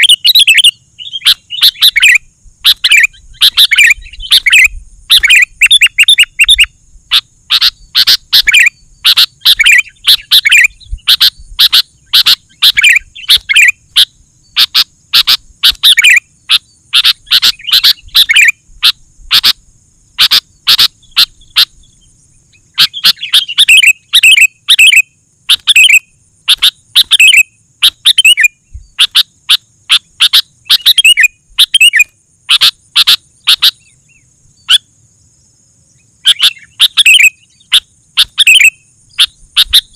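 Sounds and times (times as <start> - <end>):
bulbul singing: 0.0 - 35.0, 35.9 - 39.9.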